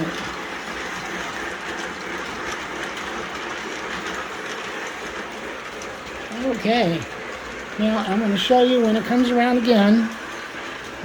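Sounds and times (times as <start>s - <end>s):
model train wheels and motor: 0.0s - 11.0s.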